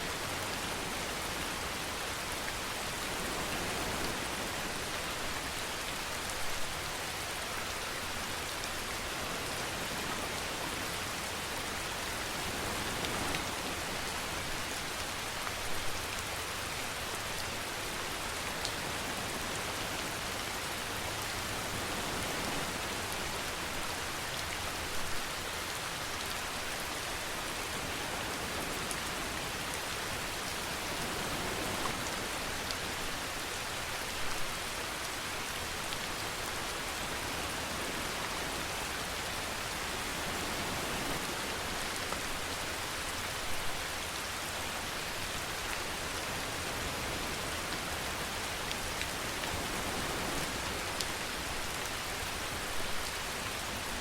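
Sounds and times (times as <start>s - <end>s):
louder rain patter: 0.0s - 54.0s
steady rain hiss: 0.0s - 54.0s.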